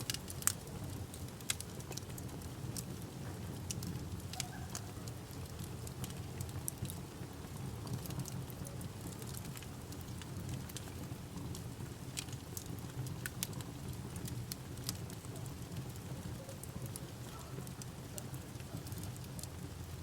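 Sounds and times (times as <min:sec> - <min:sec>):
campfire crackling and popping: 0:00.0 - 0:20.0
low steady fire rumble: 0:00.0 - 0:20.0.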